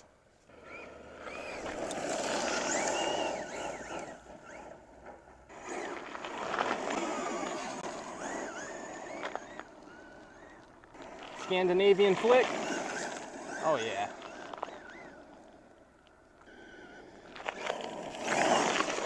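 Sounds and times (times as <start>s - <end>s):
electric motor whining: 0.4s - 19.0s
tires scrabbling on gravel: 0.4s - 19.0s.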